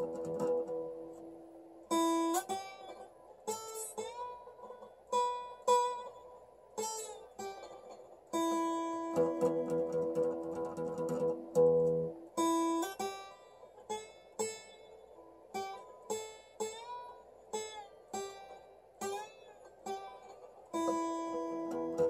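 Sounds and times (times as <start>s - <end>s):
slide acoustic guitar notes: 0.0s - 22.0s.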